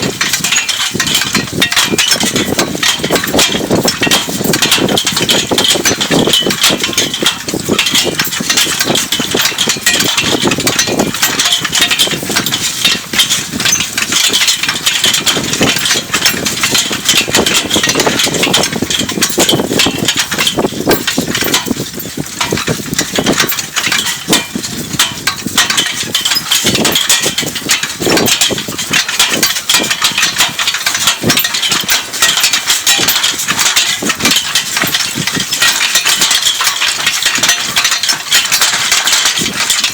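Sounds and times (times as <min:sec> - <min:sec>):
cultivator rattling and clinking: 0:00.0 - 0:39.9.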